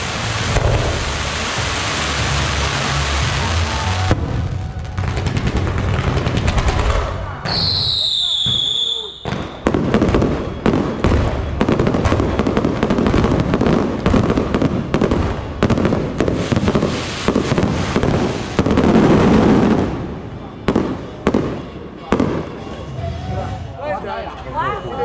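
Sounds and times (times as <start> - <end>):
fireworks launching and bursting: 0.0 - 22.9
fireworks crackling and popping: 0.0 - 23.0.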